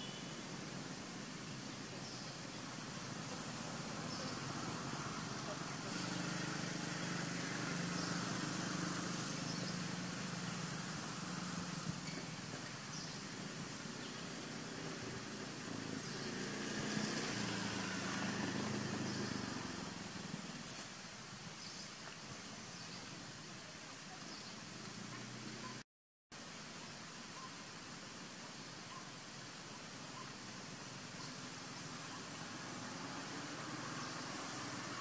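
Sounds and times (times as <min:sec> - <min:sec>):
outdoor background hiss: 0:00.0 - 0:35.0.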